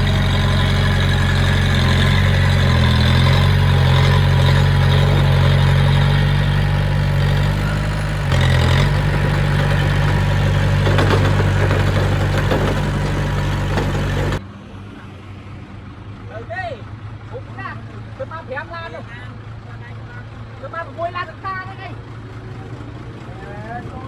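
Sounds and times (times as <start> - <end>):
diesel machine engine running: 0.0 - 15.0, 19.1 - 24.0.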